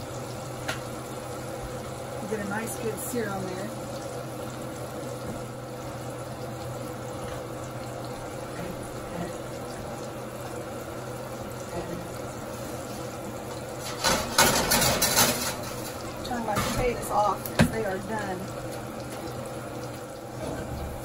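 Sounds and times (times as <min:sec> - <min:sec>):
steaks sizzling in skillet: 0:00.0 - 0:21.0.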